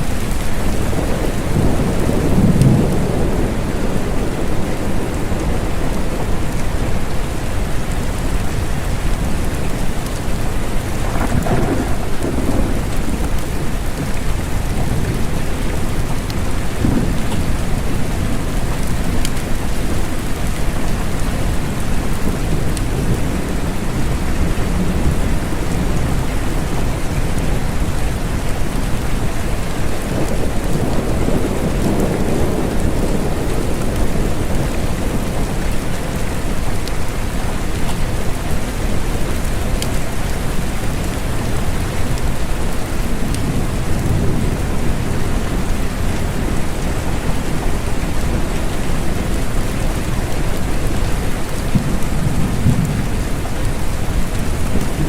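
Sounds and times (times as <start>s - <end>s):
thunder rumbles: 0.0s - 20.4s, 21.1s - 37.1s, 39.7s - 55.0s
dense rainfall: 0.0s - 55.0s.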